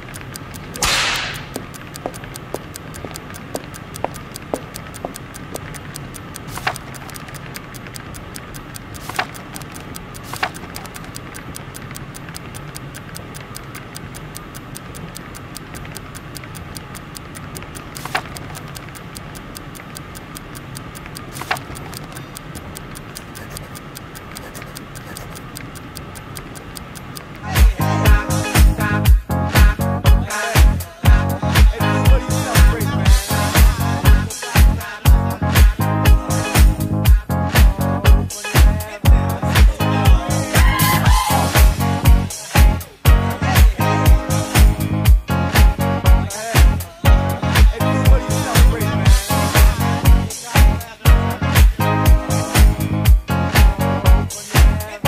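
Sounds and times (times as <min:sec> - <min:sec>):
clock ticking: 0:00.0 - 0:55.0
sharp clicks: 0:00.0 - 0:55.0.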